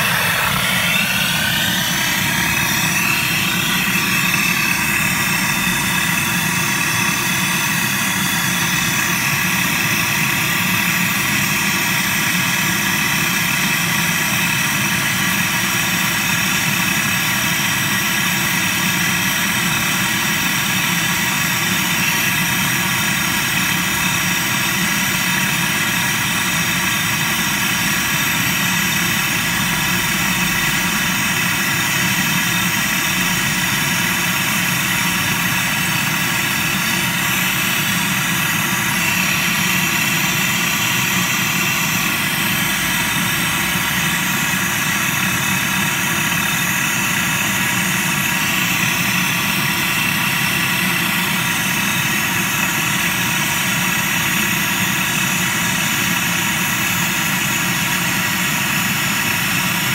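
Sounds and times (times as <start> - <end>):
gas torch flame burning: 0.0 - 59.9.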